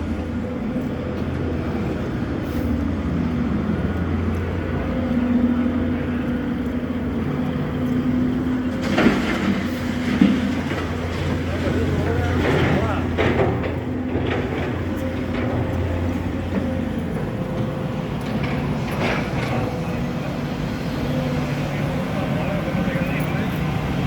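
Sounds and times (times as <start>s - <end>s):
heavy engine humming: 0.0s - 24.0s.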